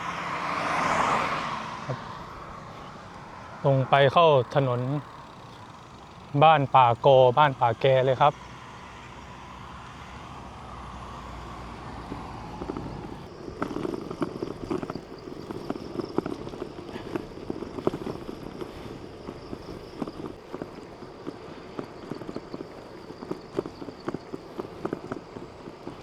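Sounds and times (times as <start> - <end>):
bicycle riding hum: 0.0 - 26.0
bike rattling over rough surface: 1.9 - 8.8, 11.0 - 26.0.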